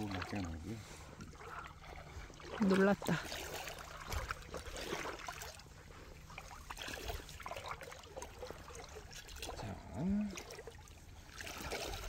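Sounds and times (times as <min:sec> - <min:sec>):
shallow water sloshing: 0:00.0 - 0:12.0.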